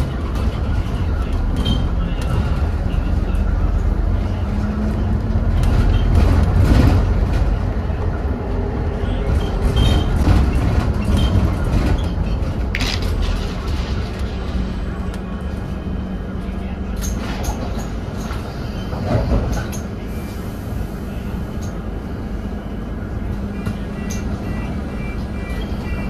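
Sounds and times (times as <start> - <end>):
bus engine low rumble: 0.0 - 26.0.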